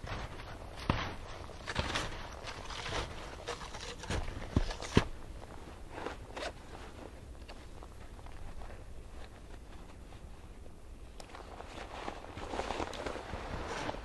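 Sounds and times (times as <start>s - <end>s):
footsteps crunching in snow: 0.0s - 10.4s, 11.3s - 14.0s.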